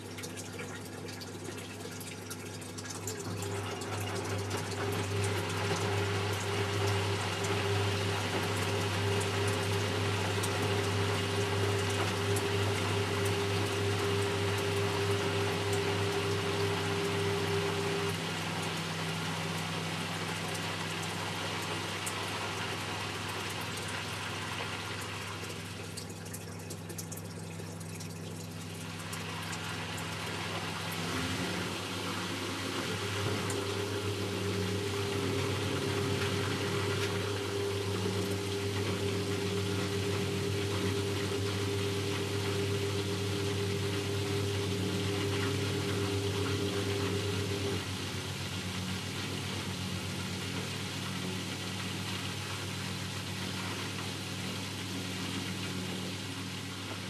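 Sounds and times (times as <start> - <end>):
higher steady hum: 0.0 - 57.0
washing machine motor hum: 0.0 - 57.0
water and laundry tumbling: 0.0 - 57.0.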